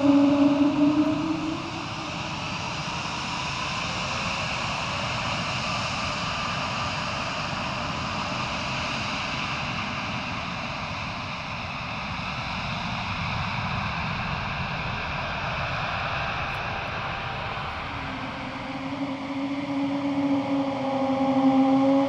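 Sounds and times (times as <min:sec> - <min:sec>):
jet engine whine: 0:00.0 - 0:22.0.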